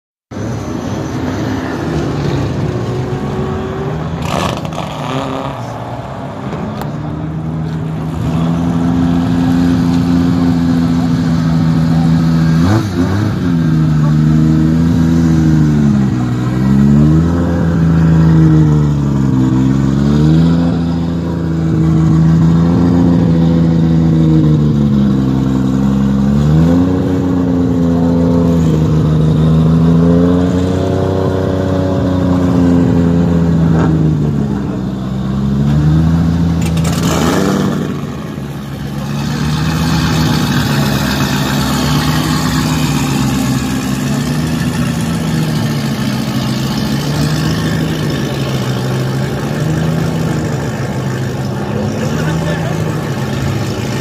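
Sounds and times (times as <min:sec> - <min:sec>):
car engine revving: 0:00.4 - 0:54.0.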